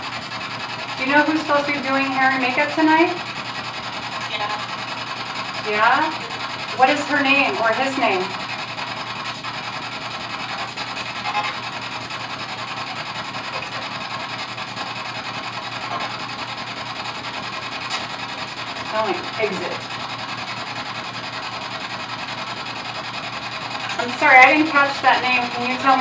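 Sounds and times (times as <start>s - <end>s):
fluttering radio static: 0.0s - 26.0s.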